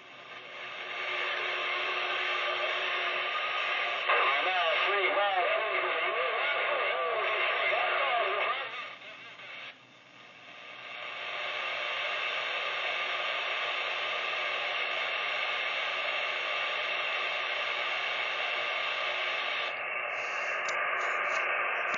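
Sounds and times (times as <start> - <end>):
radio static hiss: 0.0 - 21.9.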